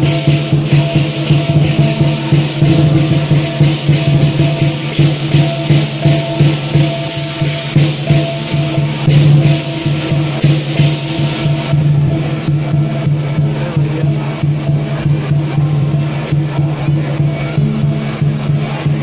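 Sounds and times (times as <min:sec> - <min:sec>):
big drum beating: 0:00.0 - 0:19.0
crashing cymbals: 0:00.0 - 0:19.0
ringing gong strokes: 0:00.0 - 0:19.0.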